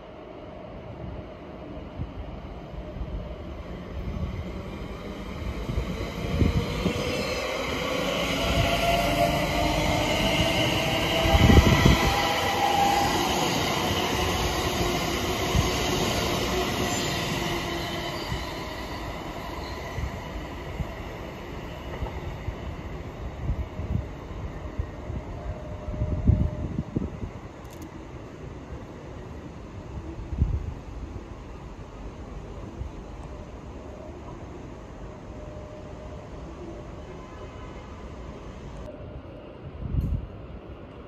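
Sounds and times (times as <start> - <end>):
electric train passing: 0.0 - 41.0.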